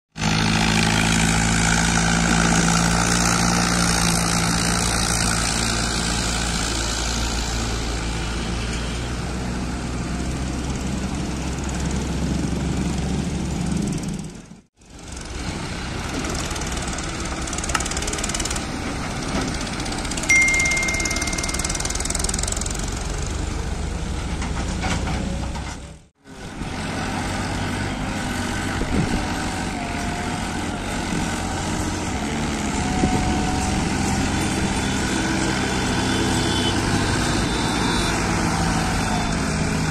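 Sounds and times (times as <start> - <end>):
tractor engines under load: 0.2 - 39.9.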